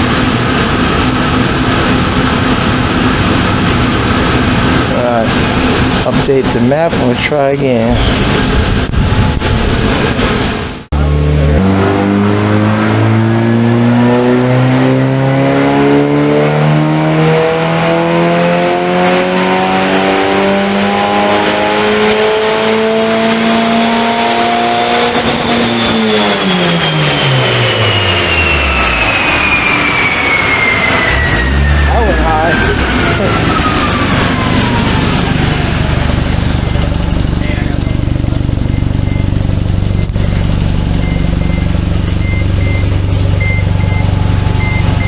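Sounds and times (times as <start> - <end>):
car engine revving at full throttle: 0.0 - 45.0
high whine falling in pitch: 0.0 - 45.0.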